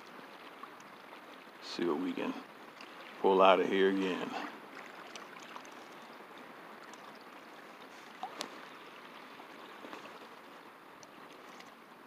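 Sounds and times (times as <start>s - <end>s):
wind and water hiss: 0.0s - 12.0s.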